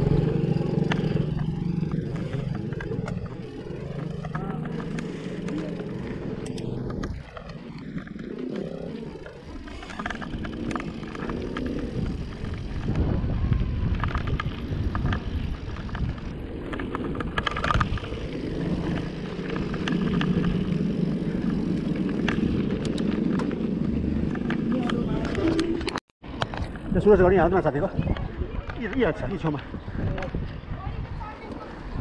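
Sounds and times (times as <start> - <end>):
bike rattling and knocking: 0.0 - 27.6
wind and tyre rumble: 0.0 - 32.0.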